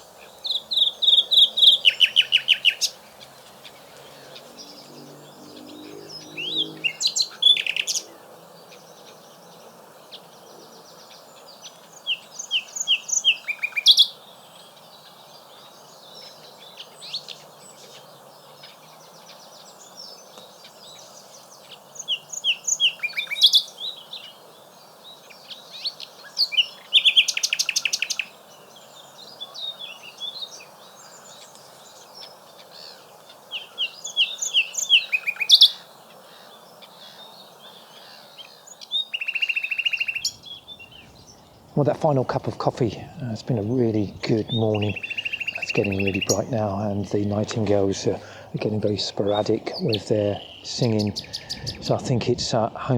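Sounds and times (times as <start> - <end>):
nightingale singing: 0.0 - 52.9.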